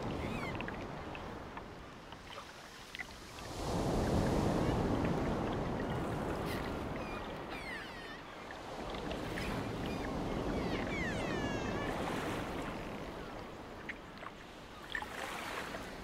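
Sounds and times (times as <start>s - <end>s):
water churning in boat wake: 0.0s - 16.0s.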